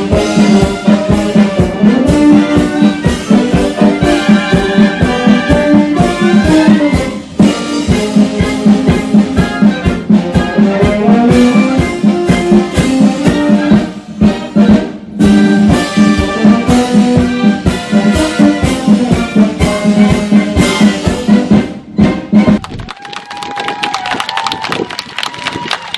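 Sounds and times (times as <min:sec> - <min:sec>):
brass band playing: 0:00.0 - 0:22.8
steady drum beat: 0:00.0 - 0:22.9.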